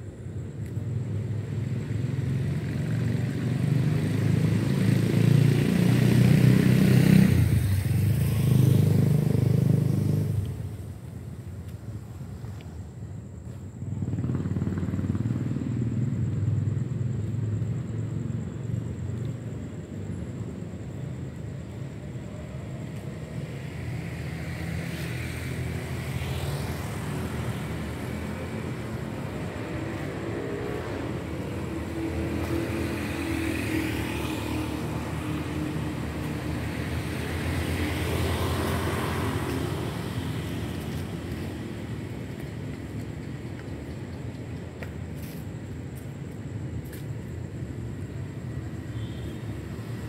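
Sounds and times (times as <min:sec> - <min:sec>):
traffic rumble: 0:00.0 - 0:50.0
vehicles passing: 0:00.0 - 0:50.0.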